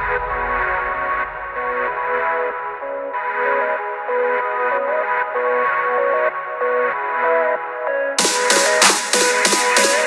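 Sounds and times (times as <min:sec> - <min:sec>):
electronic music with held notes: 0:00.0 - 0:10.0.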